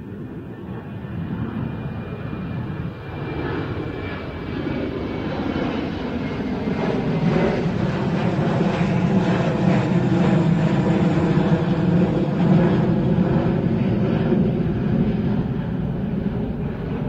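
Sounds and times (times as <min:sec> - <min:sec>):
jet airliner engine noise: 0:00.0 - 0:17.0.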